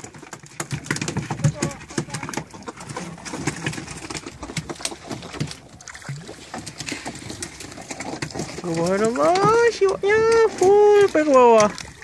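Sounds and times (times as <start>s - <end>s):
fish slapping on boat deck: 0.0s - 12.0s.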